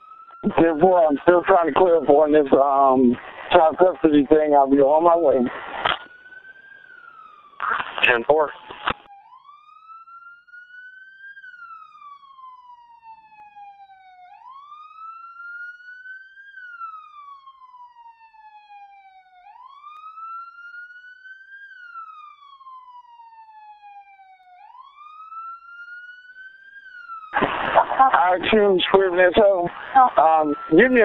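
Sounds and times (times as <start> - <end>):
siren wailing: 0.0 - 31.0.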